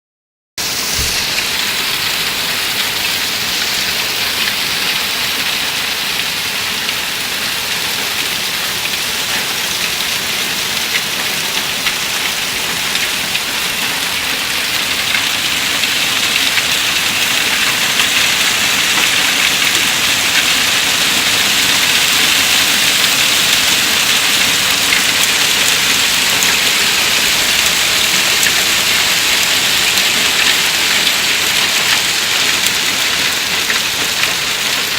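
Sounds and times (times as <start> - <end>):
hail pelting down: 0.6 - 34.9.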